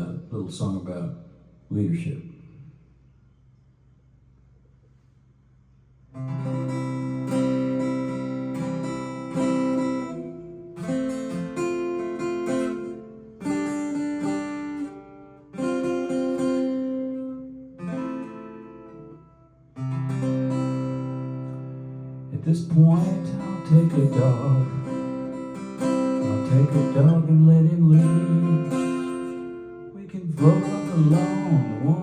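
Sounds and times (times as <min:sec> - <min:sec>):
acoustic guitar strumming chords: 0:06.2 - 0:32.0.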